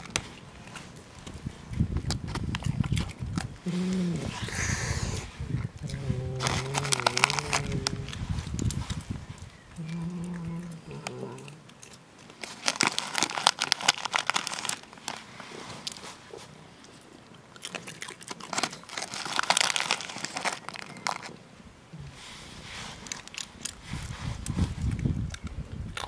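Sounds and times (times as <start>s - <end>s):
animals crunching and chewing food: 0.0s - 26.0s.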